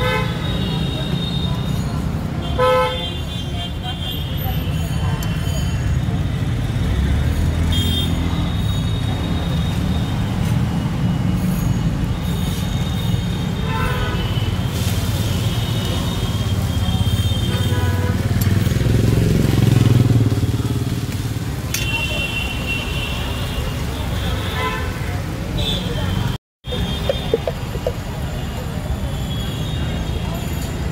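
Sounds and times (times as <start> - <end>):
street traffic rumble: 0.0 - 30.9.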